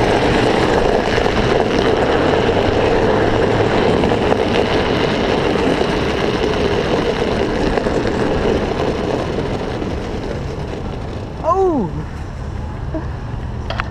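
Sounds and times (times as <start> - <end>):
trike rolling on asphalt: 0.0 - 13.9.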